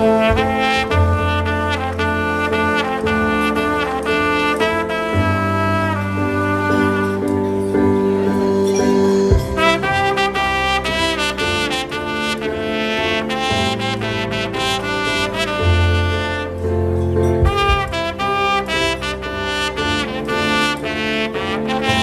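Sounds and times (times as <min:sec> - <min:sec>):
solo trumpet melody: 0:00.0 - 0:22.0.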